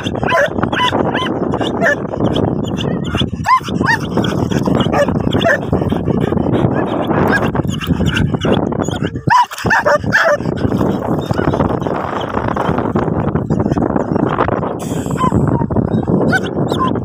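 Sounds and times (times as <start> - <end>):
dogs yipping and whining: 0.0 - 17.0.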